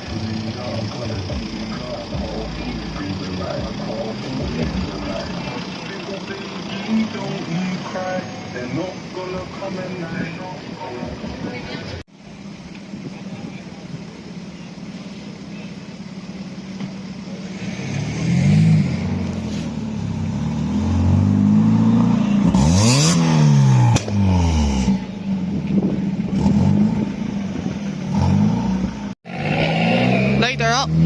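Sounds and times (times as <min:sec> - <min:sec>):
car engine revving: 0:00.0 - 0:12.1, 0:15.5 - 0:31.0.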